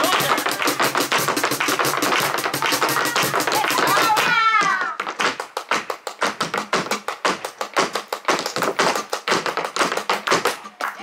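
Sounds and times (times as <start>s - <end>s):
shoes tapping on wooden board: 0.0s - 11.0s.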